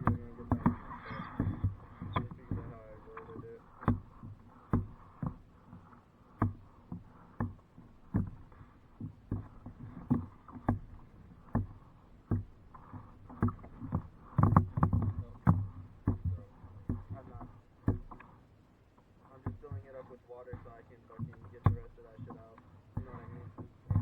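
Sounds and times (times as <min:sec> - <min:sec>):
faint water noise: 0:00.0 - 0:24.0
paddle strokes splashing: 0:00.0 - 0:24.0.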